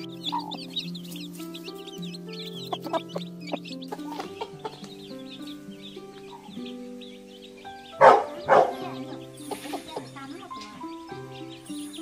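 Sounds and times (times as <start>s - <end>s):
chickens clucking: 0.0s - 12.0s
small birds chirping: 0.0s - 12.0s
soft background music: 0.0s - 12.0s.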